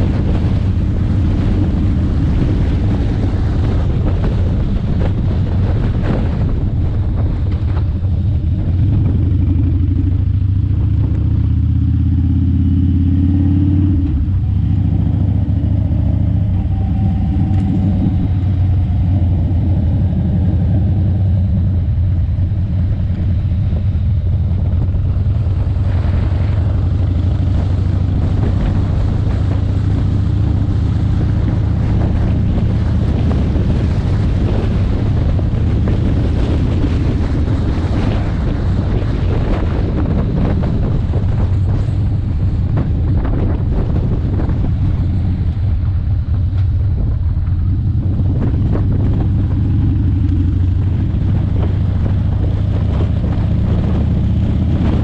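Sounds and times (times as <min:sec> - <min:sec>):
motorcycle engine droning: 0:00.0 - 0:55.0
wind noise on microphone: 0:00.0 - 0:55.0.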